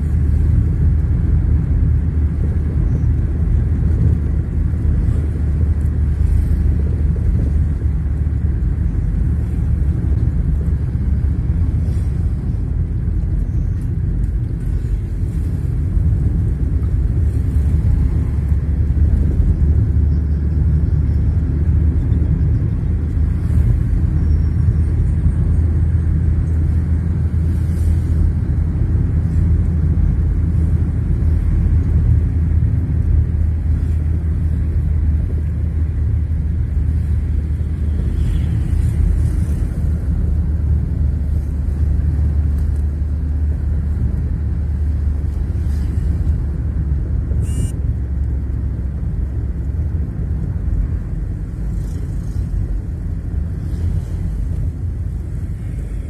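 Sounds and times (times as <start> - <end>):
car interior engine and tyre rumble: 0.0 - 56.0.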